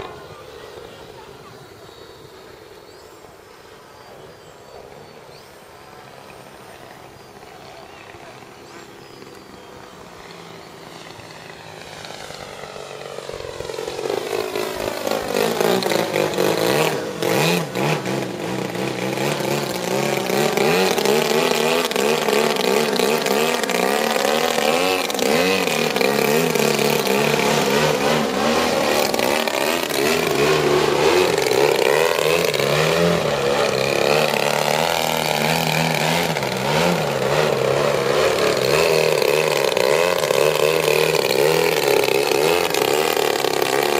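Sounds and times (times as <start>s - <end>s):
model plane engine: 0.0s - 43.9s.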